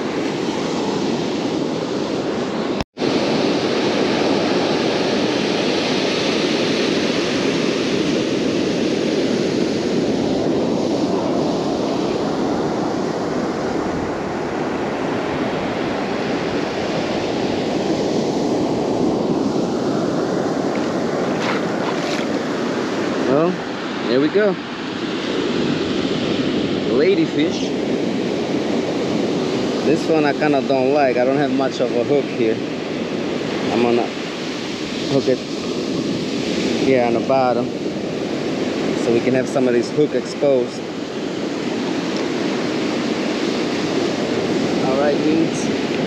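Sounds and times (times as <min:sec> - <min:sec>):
ocean surf washing on beach: 0:00.0 - 0:46.0
wind on microphone: 0:00.0 - 0:46.0.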